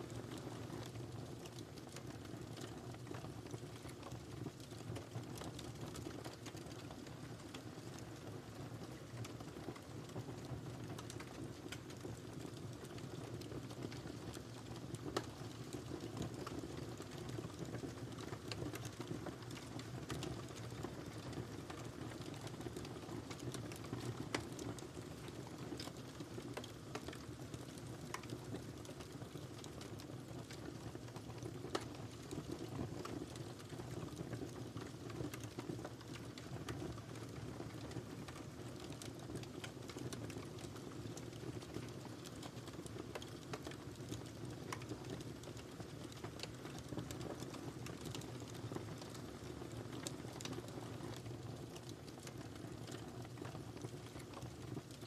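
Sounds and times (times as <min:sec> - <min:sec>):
fire crackles and pops: 0:00.0 - 0:55.0
wood fire rumbling: 0:00.1 - 0:55.0.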